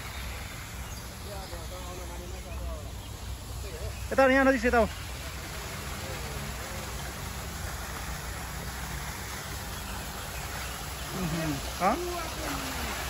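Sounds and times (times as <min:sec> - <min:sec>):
faint distant voices: 0:00.0 - 0:13.0
waterfall splashing into pool: 0:00.0 - 0:13.0.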